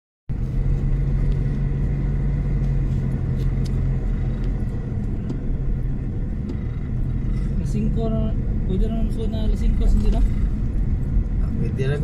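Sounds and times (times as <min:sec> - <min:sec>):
low hum: 0:00.3 - 0:11.9
car engine and tyre rumble: 0:00.3 - 0:12.0.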